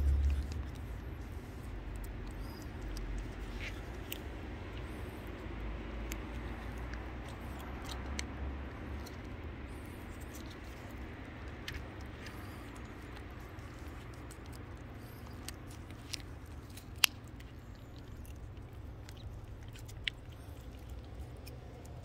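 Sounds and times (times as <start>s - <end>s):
cats chewing and licking: 0.0s - 22.0s
low steady hum: 0.0s - 22.0s.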